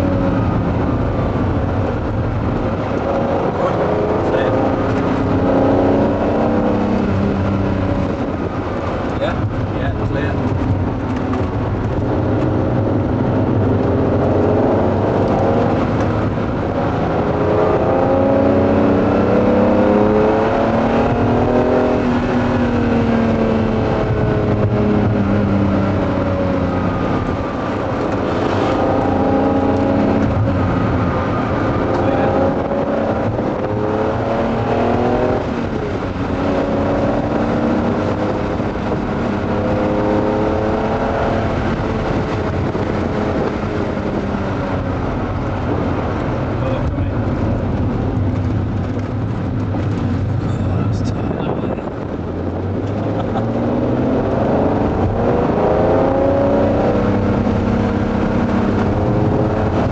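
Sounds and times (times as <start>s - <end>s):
car engine revving through gears: 0.0s - 59.9s
road noise: 0.0s - 59.9s.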